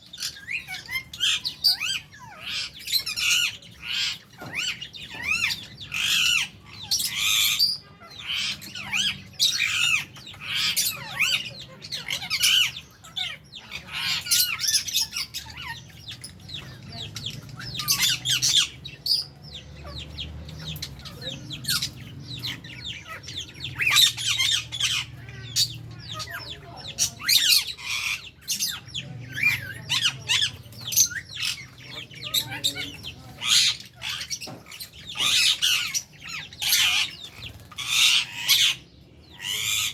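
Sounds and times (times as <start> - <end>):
parrots chattering and squawking: 0.0 - 39.9.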